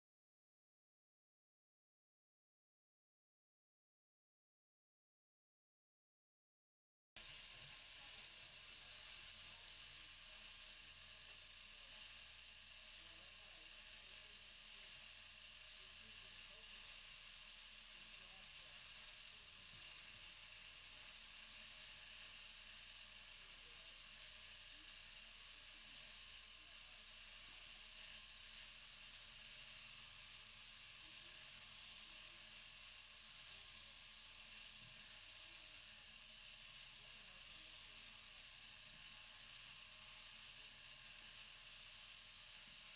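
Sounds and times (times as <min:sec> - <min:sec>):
electric shears buzzing: 0:07.2 - 0:42.9.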